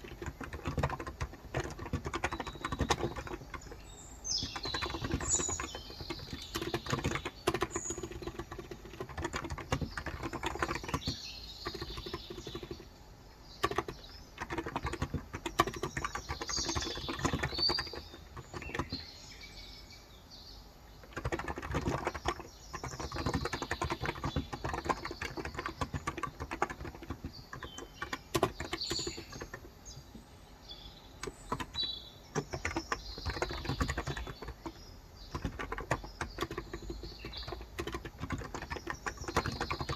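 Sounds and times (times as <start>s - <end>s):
keyboard typing: 0.0s - 12.9s, 13.5s - 19.1s, 21.0s - 30.1s, 31.2s - 39.9s
birds chirping: 0.0s - 39.9s.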